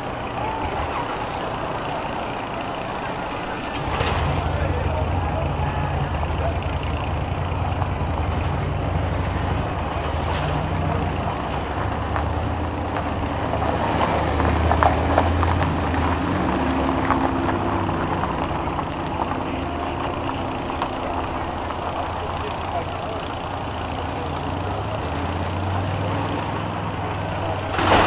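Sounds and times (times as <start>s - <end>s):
heavy vehicle engines running: 0.0s - 28.0s.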